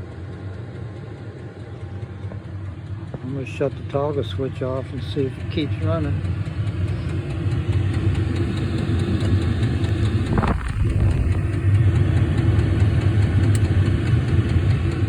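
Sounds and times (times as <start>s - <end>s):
diesel air heater humming: 0.0s - 15.0s.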